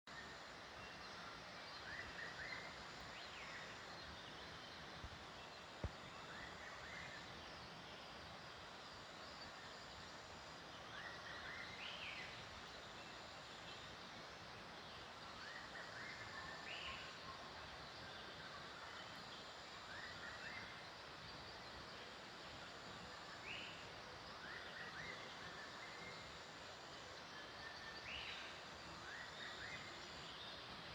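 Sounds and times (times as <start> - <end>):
steady background hiss: 0.1 - 30.9.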